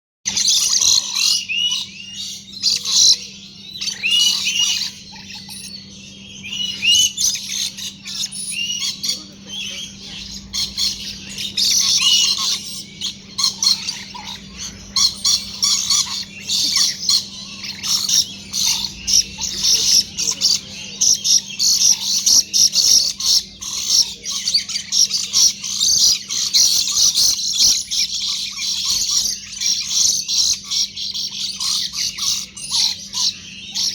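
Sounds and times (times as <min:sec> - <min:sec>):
parrots chattering and squawking: 0:00.3 - 0:33.9.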